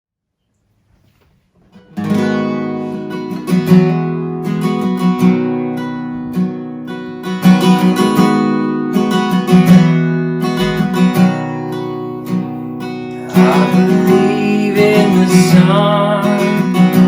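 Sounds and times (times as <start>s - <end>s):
acoustic guitar strumming chords: 1.7s - 17.0s.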